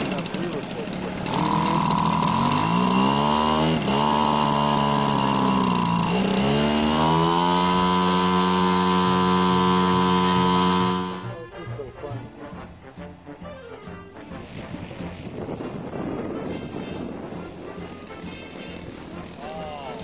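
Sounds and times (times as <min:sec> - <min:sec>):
model plane engine at high revs: 0:00.0 - 0:11.4, 0:14.4 - 0:20.0.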